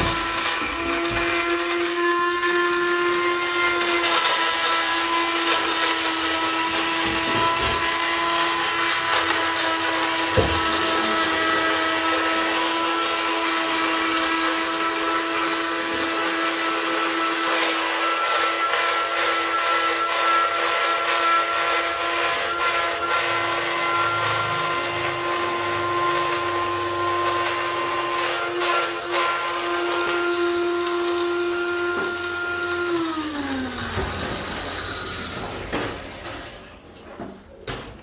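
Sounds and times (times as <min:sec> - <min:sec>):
blender motor whining: 0:00.0 - 0:36.6.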